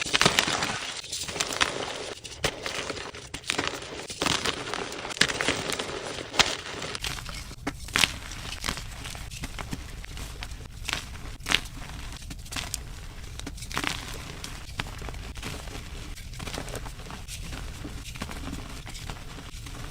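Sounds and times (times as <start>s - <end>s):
chalk crushing and crunching: 0.0s - 19.9s.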